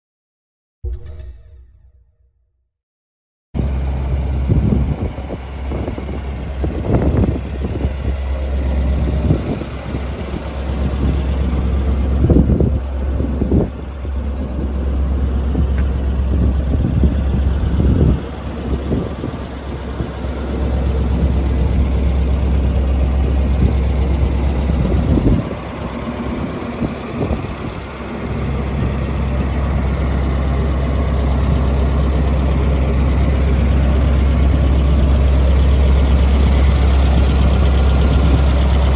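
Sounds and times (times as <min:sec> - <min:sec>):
truck engine idling: 0:05.1 - 0:38.9.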